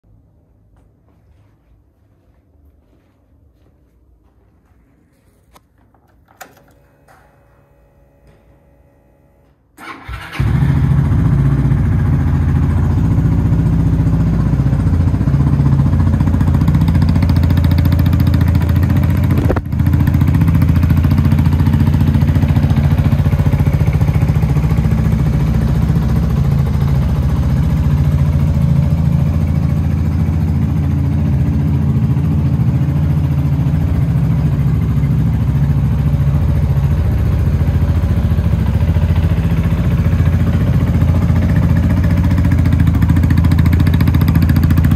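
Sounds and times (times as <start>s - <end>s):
scooter engine starting and idling: 5.8s - 44.9s.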